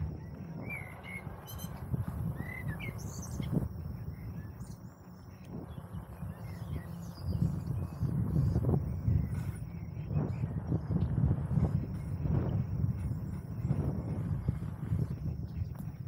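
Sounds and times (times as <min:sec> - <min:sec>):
bicycle rolling along a path: 0:00.0 - 0:16.0
birds chirping: 0:00.0 - 0:16.0.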